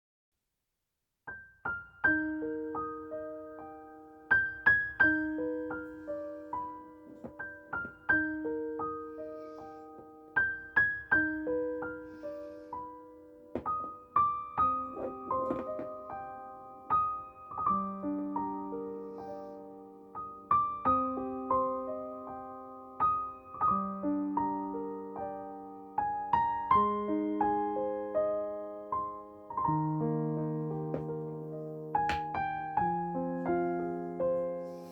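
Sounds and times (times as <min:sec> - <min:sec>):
slow piano music: 0:01.3 - 0:34.9.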